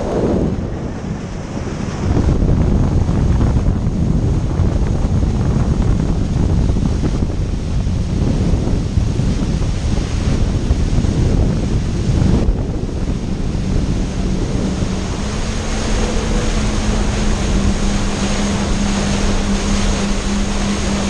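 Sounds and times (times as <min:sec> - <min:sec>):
low engine hum: 0:00.0 - 0:21.0
wind buffeting microphone: 0:00.0 - 0:21.0.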